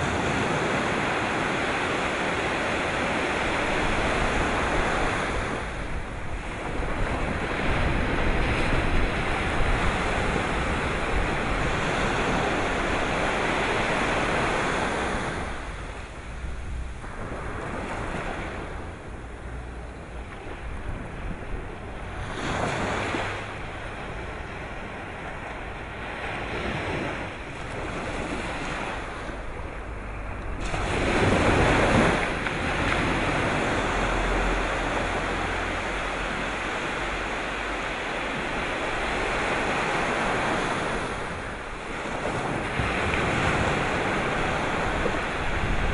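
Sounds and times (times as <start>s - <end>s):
sea waves breaking: 0.0s - 45.9s
wind buffeting microphone: 0.0s - 45.9s.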